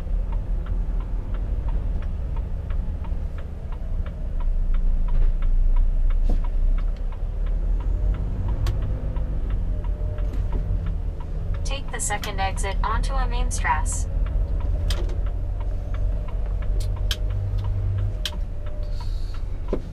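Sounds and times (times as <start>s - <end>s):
diesel engine running: 0.0s - 19.9s
turn signal ticking: 0.0s - 19.9s.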